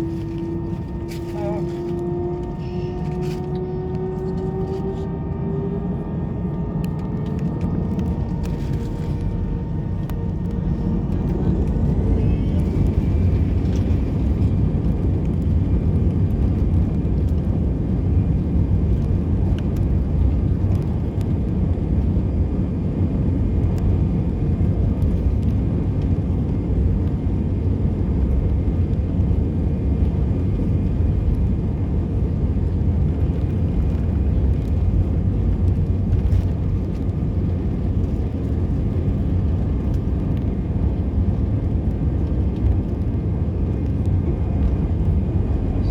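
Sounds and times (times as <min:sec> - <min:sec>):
jet engines rumbling: 0:00.0 - 0:45.9
rising engine whine: 0:00.0 - 0:45.9.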